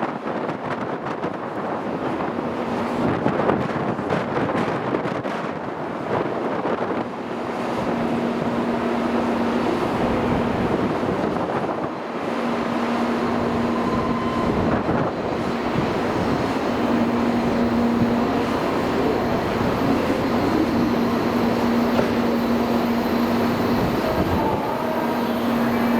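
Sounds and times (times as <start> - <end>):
train rushing noise: 0.0 - 25.9.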